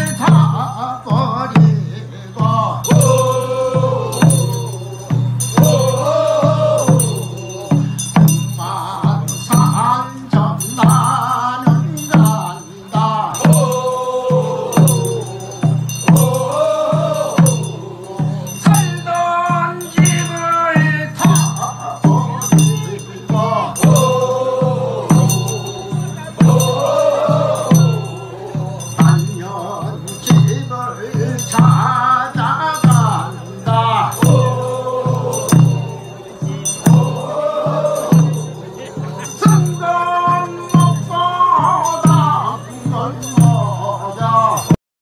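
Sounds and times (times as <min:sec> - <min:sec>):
barrel drum beat: 0:00.0 - 0:44.8
chorus singing: 0:00.0 - 0:44.8
lead singer: 0:00.0 - 0:44.8.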